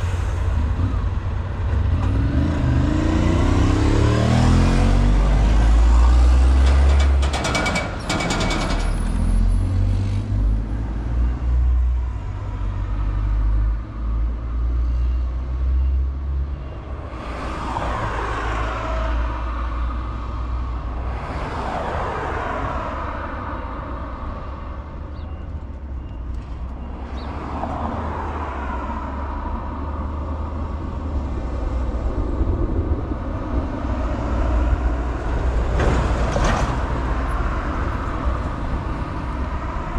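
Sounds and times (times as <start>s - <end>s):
vehicles passing by: 0.0s - 39.9s.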